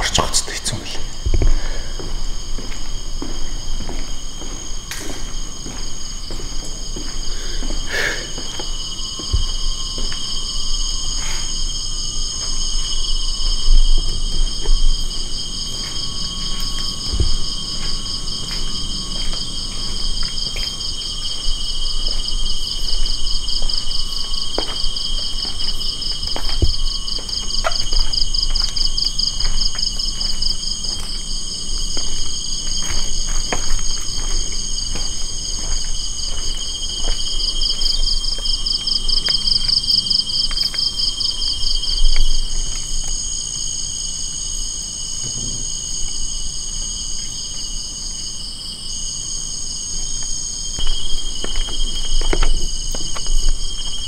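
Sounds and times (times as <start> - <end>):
chorus of insects: 0.0 - 54.0.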